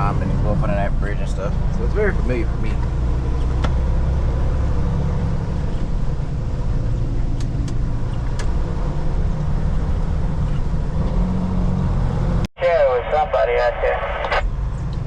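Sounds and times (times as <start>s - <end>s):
truck engine rumble inside cab: 0.0s - 12.5s.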